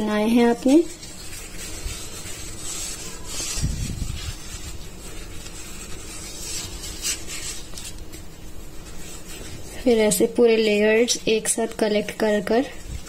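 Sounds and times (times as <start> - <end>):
pastry sheets rustling: 0.0 - 13.0.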